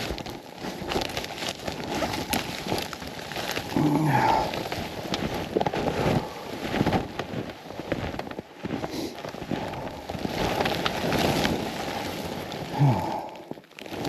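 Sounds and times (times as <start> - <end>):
snowshoes crunching through snow: 0.0 - 14.0.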